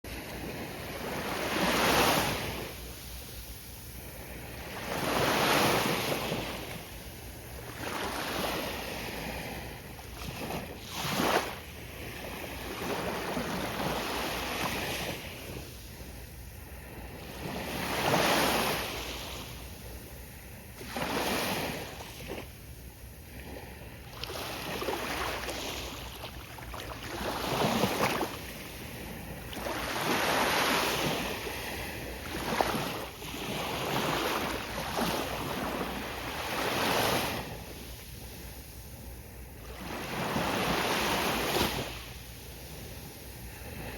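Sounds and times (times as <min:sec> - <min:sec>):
ocean waves breaking: 0:00.1 - 0:16.0, 0:23.3 - 0:43.9.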